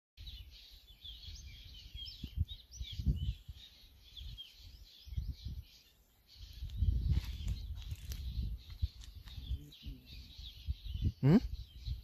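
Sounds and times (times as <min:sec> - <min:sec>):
birds chirping and singing: 0:00.2 - 0:12.0
wind rumbling on microphone: 0:00.2 - 0:12.0.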